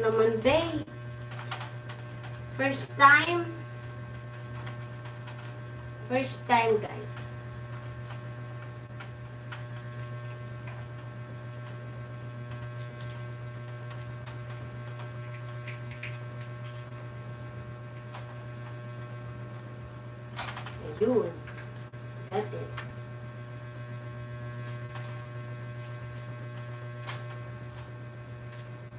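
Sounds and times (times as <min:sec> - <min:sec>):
low electrical hum: 0:00.0 - 0:28.9.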